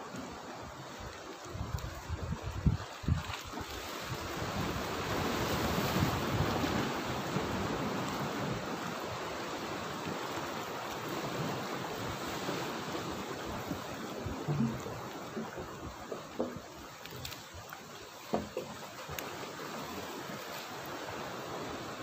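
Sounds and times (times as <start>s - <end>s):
sea waves splashing on rocks: 0.0s - 22.0s.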